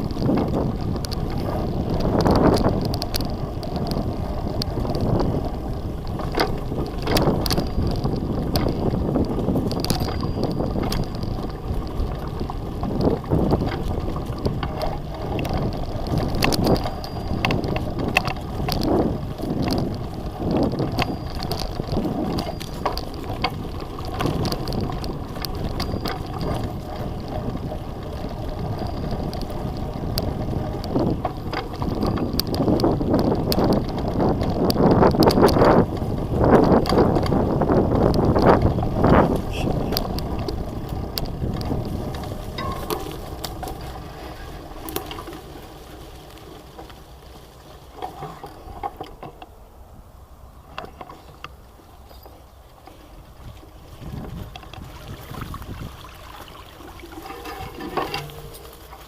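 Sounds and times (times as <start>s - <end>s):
steady rumble: 0.0s - 53.2s, 56.8s - 59.0s
bicycle clicks and rattles: 0.0s - 59.0s
wind buffeting microphone: 0.0s - 59.0s.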